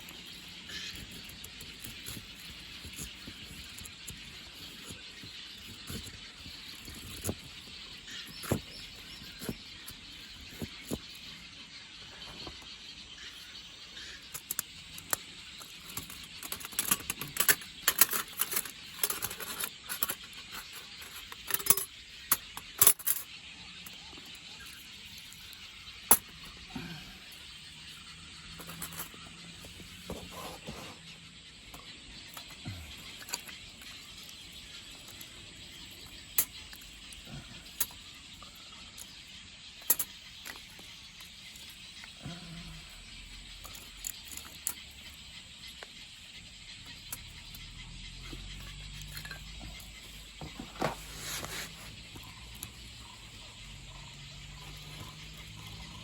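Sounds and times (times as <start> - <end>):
objects clicking and knocking: 0.0 - 11.4, 14.2 - 27.6, 28.2 - 31.0, 31.7 - 39.2, 39.8 - 42.4, 43.5 - 46.0, 46.8 - 52.9.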